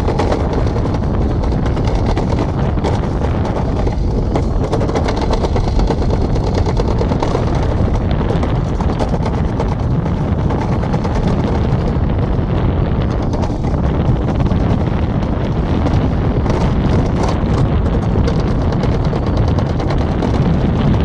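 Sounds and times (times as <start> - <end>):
sled rumbling on metal track: 0.0 - 21.0.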